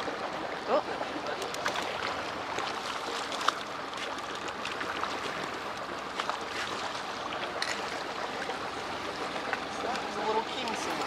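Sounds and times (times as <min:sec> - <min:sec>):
small sharp ticks and splashes: 0:00.0 - 0:11.0
water lapping against boat: 0:00.0 - 0:11.0.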